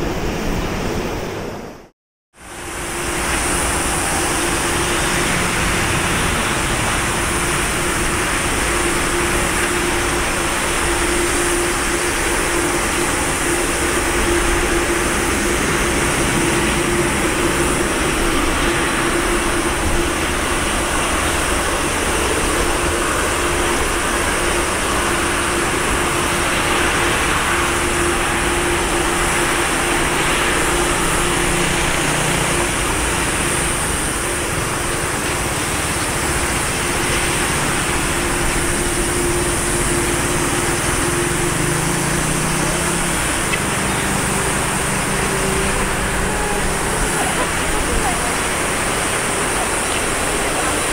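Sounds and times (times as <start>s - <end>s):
jet engines idling: 2.5s - 50.9s.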